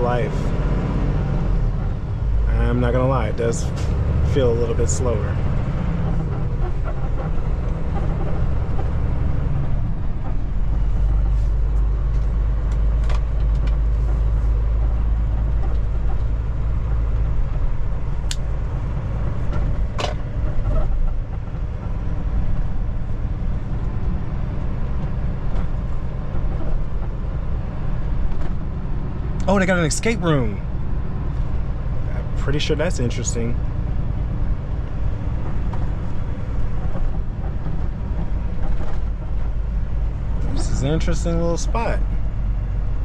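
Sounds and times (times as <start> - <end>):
truck engine and road noise: 0.0 - 43.0.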